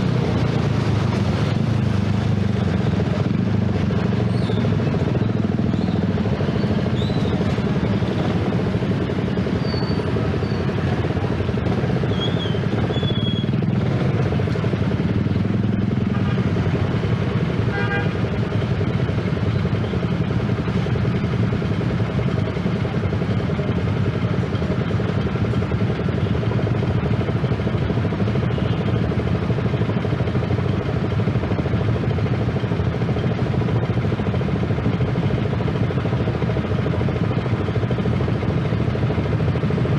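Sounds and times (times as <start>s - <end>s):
motorcycle engines idling: 0.0s - 39.9s.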